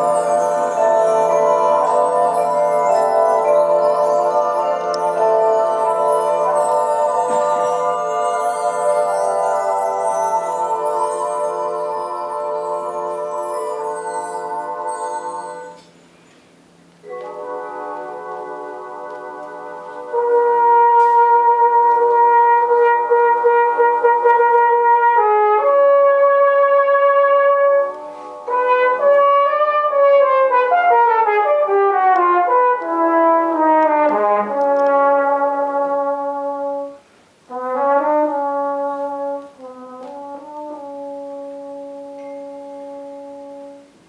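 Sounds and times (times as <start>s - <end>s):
brass band playing chords: 0.0s - 15.8s, 17.0s - 44.0s.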